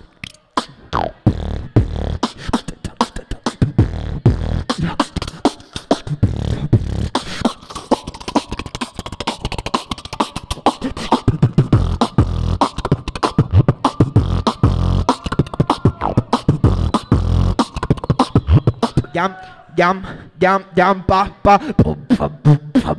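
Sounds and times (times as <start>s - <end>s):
person beatboxing into microphone: 0.0s - 22.9s.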